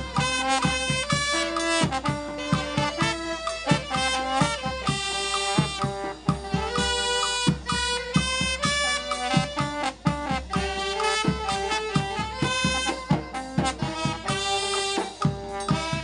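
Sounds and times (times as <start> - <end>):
bass drum and snare beat: 0.0 - 16.0
brass band playing melody: 0.0 - 16.0.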